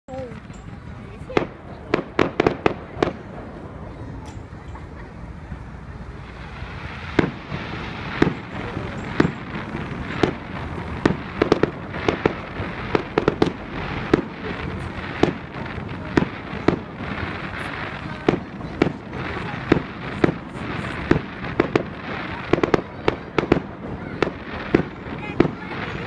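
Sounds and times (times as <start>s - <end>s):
fireworks bangs: 0.2s - 26.0s.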